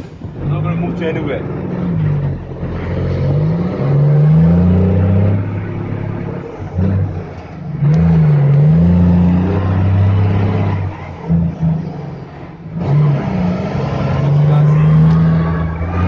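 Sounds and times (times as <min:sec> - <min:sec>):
truck diesel engine pulling: 0:00.0 - 0:16.0.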